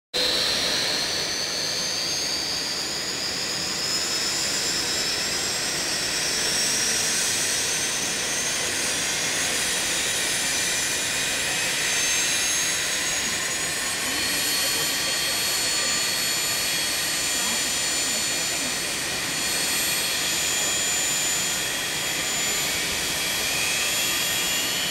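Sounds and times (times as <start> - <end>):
jet engine rushing noise: 0.2 - 24.9
jet engine whine rising: 0.2 - 24.9.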